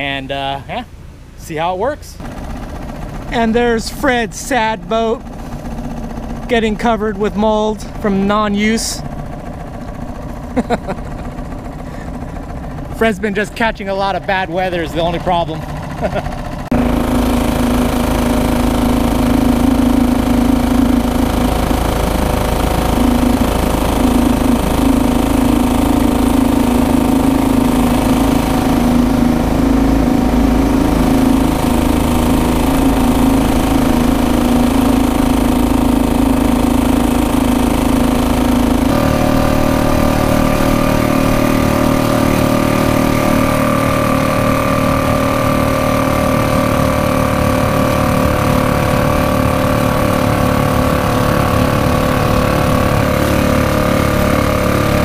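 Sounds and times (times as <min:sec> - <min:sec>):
small outboard motor running: 0:00.0 - 0:55.0.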